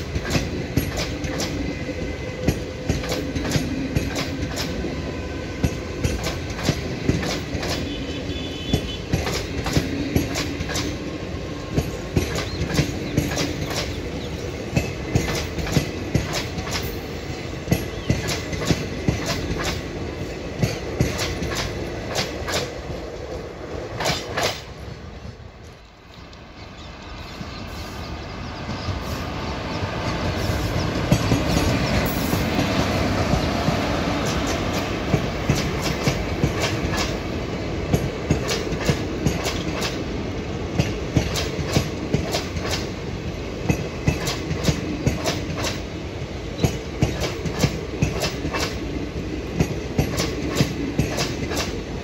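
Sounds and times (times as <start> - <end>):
wheels clacking over rail joints: 0.0 - 8.0, 8.6 - 27.6, 28.6 - 52.0
train wheels rumbling on rails: 0.0 - 52.0.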